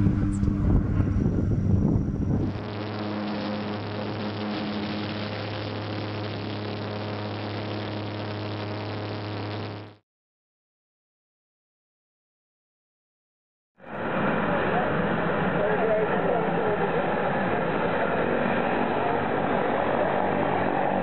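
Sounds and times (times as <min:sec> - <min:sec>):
loud noisy burst: 0:00.0 - 0:10.0, 0:13.8 - 0:21.0
propeller airplane engine drone: 0:00.0 - 0:10.0, 0:13.8 - 0:21.0.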